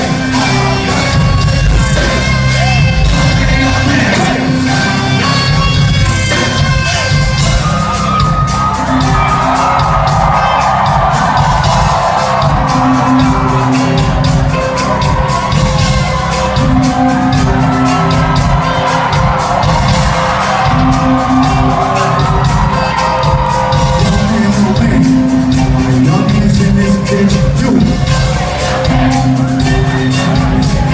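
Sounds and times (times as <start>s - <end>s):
crowd shouting and singing along: 0.0s - 30.9s
live concert music with heavy beat: 0.0s - 30.9s.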